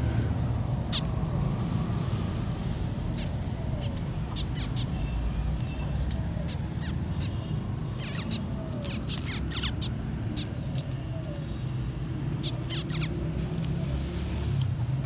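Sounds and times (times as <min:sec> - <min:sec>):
finches chirping: 0:00.6 - 0:01.9, 0:03.0 - 0:14.5.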